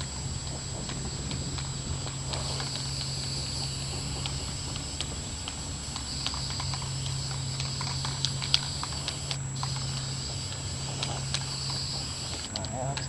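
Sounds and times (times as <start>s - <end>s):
aerosol can spraying: 0.0s - 12.9s
light clicks: 0.0s - 13.0s.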